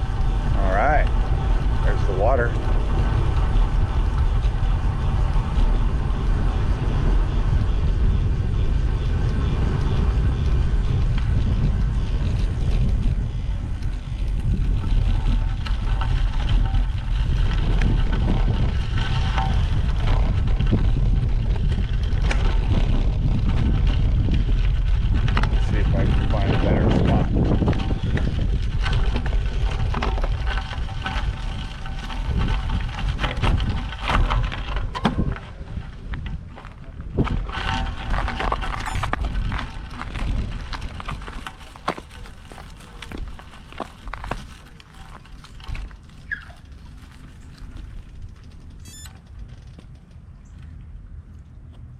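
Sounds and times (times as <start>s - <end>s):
bicycle tyre noise: 0.0s - 51.9s
wind rumbling on microphone: 0.0s - 51.9s.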